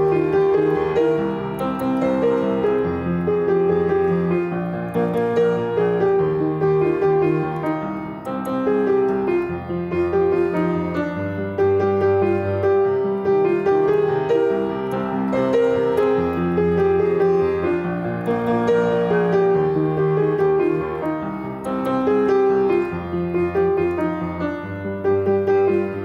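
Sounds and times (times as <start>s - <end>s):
keyboard chords over bass notes: 0.0s - 26.0s.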